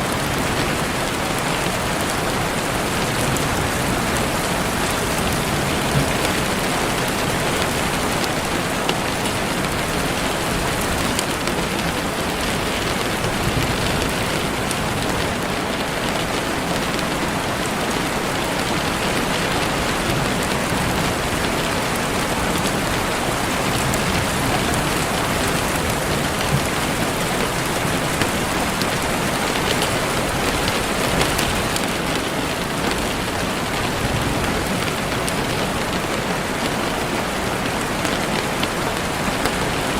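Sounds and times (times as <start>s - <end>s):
heavy rain on leaves: 0.0s - 39.9s
individual raindrops: 0.0s - 39.9s.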